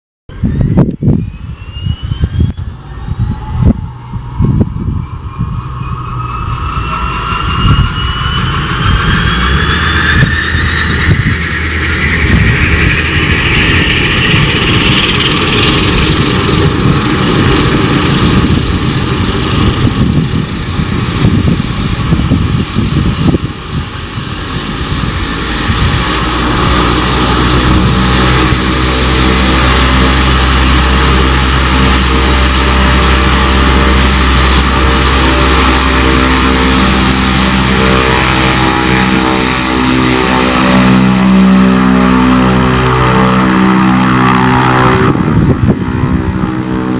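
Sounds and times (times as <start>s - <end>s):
turboprop engine starting up: 0.3s - 46.9s.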